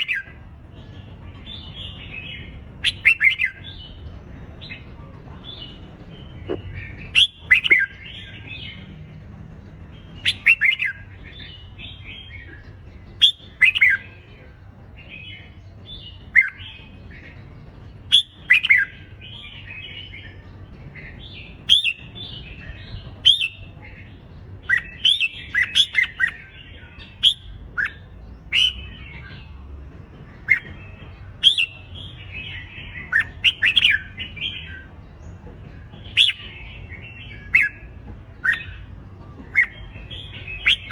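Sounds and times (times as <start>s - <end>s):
bulbuls singing whistled phrases: 0.0s - 8.8s, 9.9s - 29.7s, 30.3s - 40.9s.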